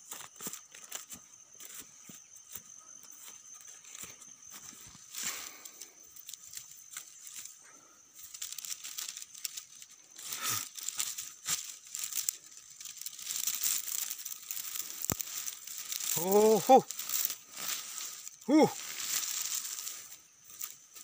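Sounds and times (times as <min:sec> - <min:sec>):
dry grass and twigs rustling: 0:00.0 - 0:21.0.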